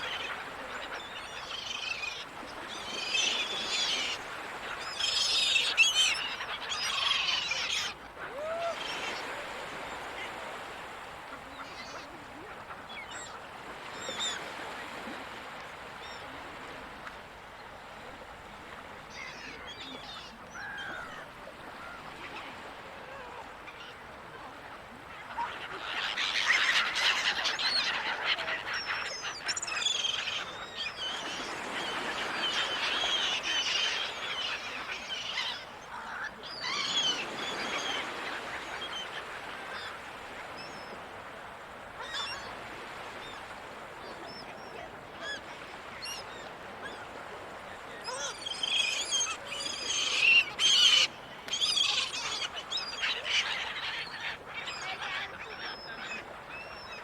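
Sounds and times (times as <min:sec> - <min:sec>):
seagulls calling: 0:00.0 - 0:15.1, 0:19.1 - 0:24.0, 0:25.1 - 0:41.2, 0:42.0 - 0:57.0.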